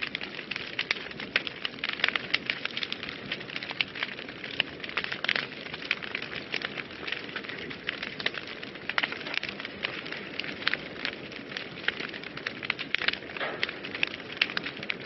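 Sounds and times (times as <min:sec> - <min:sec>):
fireplace fire crackling and popping: 0:00.0 - 0:15.0.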